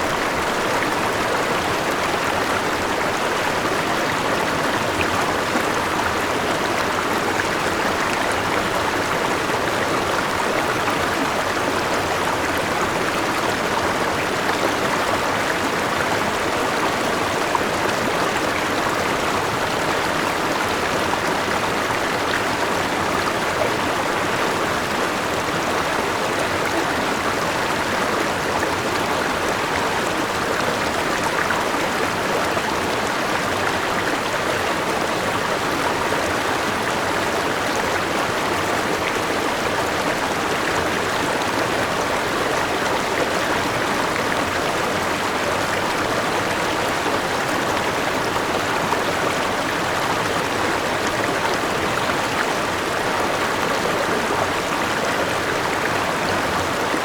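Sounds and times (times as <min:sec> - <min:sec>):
rushing river water: 0:00.0 - 0:57.0.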